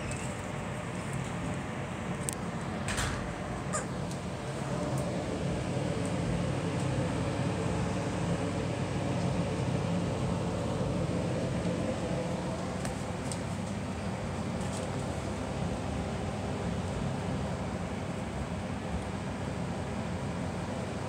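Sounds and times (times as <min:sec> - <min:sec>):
mechanical hum with low drone: 0:00.0 - 0:21.0.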